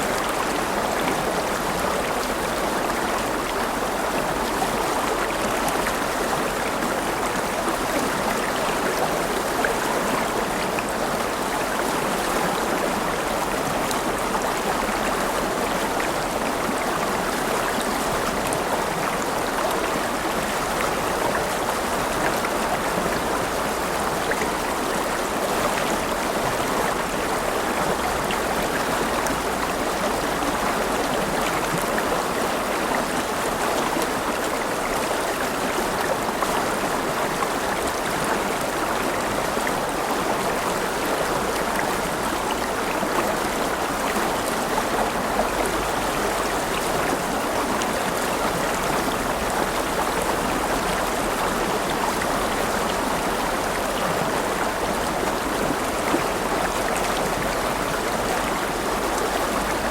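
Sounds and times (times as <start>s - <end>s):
river water rushing over stones: 0.0s - 59.9s.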